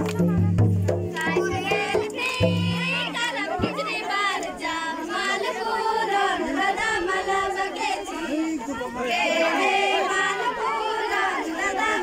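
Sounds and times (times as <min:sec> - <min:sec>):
women and girls singing together: 0:00.1 - 0:12.0.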